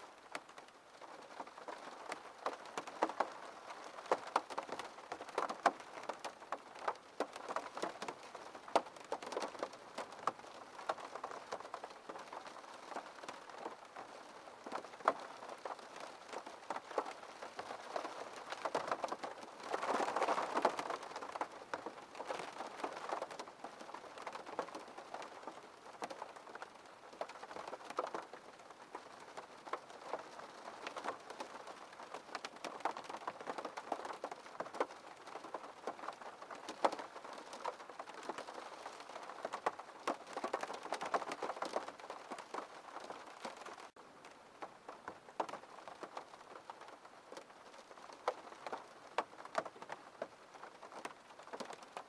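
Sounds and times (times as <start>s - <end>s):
raindrops ticking on glass: 0.1s - 52.0s.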